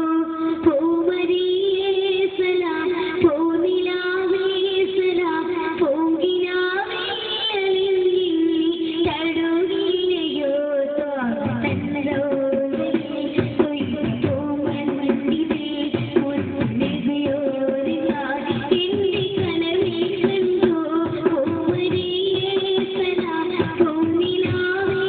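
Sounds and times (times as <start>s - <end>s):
boy singing into microphone: 0.0s - 25.0s.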